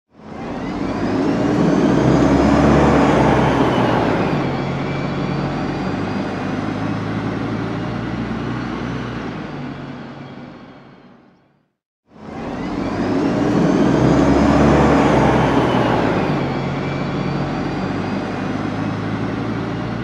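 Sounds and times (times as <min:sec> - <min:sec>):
bus engine hum: 0:00.1 - 0:20.0.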